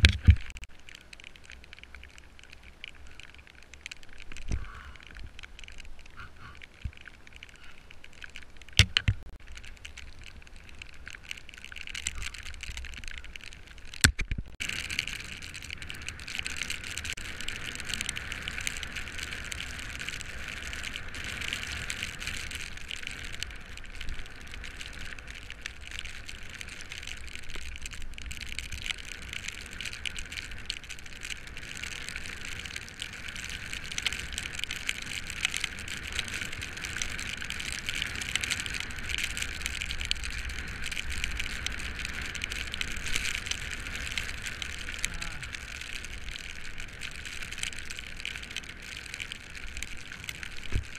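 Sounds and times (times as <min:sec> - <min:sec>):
bicycle tyres hissing on wet road: 0:00.0 - 0:50.9
wind rumbling on microphone: 0:01.4 - 0:50.9.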